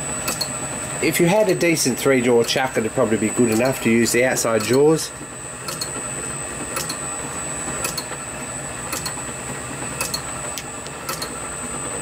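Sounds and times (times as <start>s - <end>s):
lathe motor hum: 0.0s - 12.0s.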